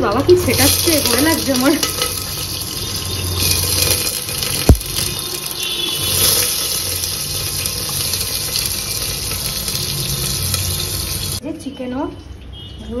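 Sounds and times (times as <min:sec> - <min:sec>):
vegetables sizzling in oil: 0:00.0 - 0:11.4.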